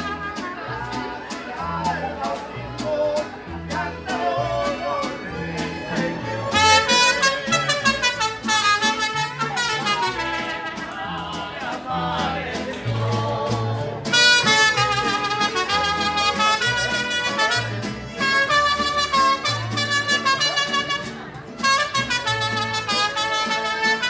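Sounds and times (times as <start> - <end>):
mariachi band playing: 0.0 - 24.0.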